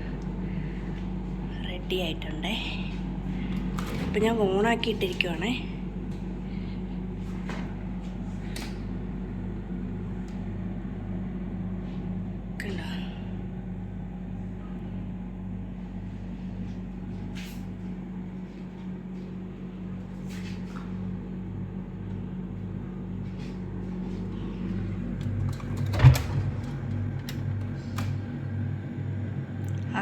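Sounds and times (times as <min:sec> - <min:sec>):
refrigerator humming: 0:00.0 - 0:30.0.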